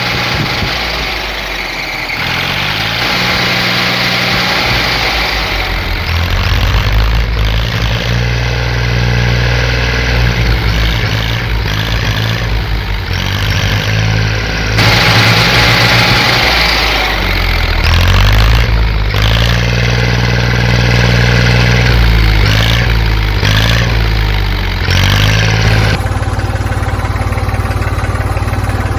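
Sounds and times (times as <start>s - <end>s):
tractor engine revving under load: 0.0s - 28.9s.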